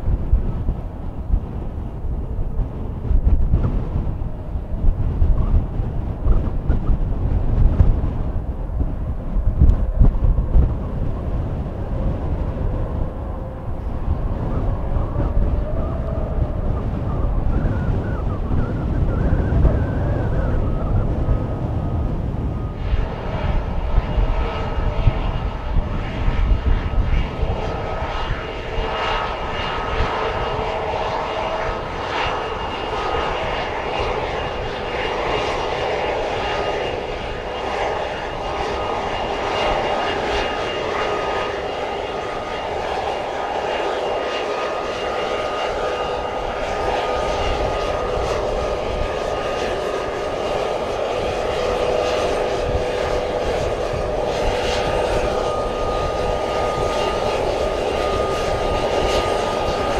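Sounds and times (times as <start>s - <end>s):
jet engines roaring and whining: 0.0s - 59.9s.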